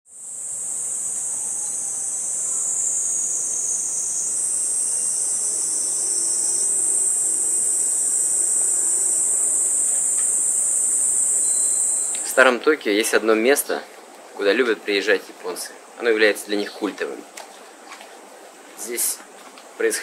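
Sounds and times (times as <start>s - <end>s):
cicadas singing: 0.1s - 20.0s.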